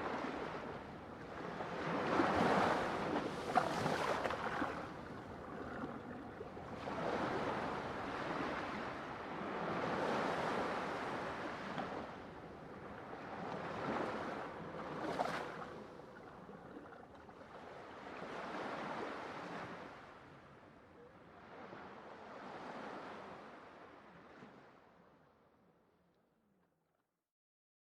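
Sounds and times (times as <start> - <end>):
ocean waves breaking on shore: 0.0 - 24.8.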